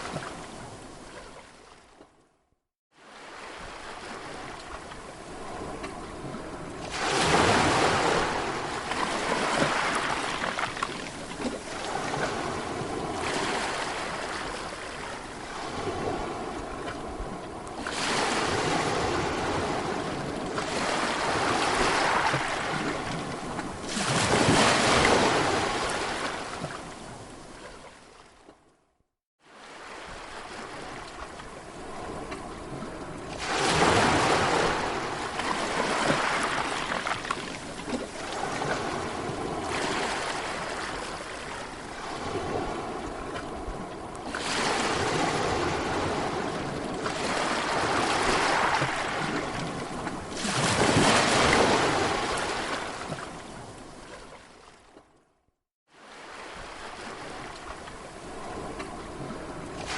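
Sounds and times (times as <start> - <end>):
sea waves washing onto shore: 2.9 - 28.1, 29.4 - 54.7, 55.9 - 59.9.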